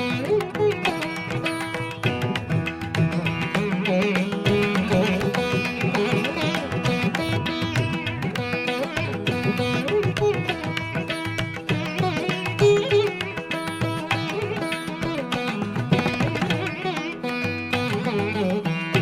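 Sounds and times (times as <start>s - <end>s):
sliding melodic instrument: 0.0s - 19.0s.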